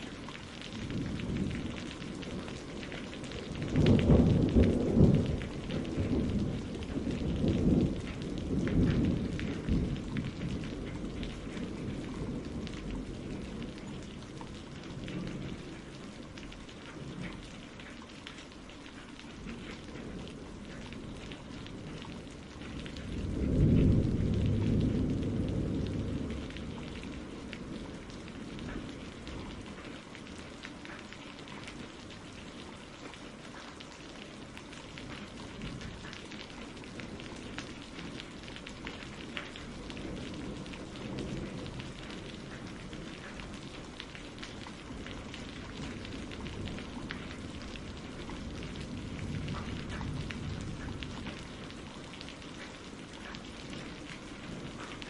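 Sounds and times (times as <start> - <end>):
distant thunder rumble: 0.0 - 18.0, 19.3 - 30.9, 34.4 - 55.0
rain pattering: 0.0 - 55.0.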